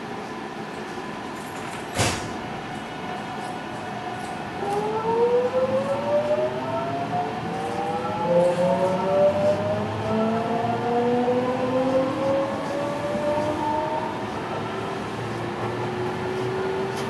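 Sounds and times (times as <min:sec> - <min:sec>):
train running rumble: 0:00.0 - 0:17.0
train motors whining: 0:02.8 - 0:17.0.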